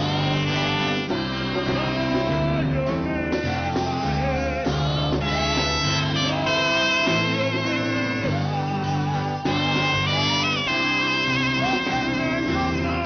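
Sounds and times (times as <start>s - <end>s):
guitar: 0.0s - 13.0s
held bass notes: 0.0s - 13.0s
worship band music: 0.0s - 13.0s.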